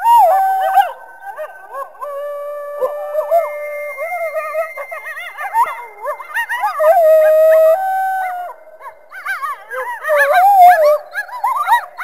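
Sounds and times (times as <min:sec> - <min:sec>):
coyotes howling and yipping: 0:00.0 - 0:12.0.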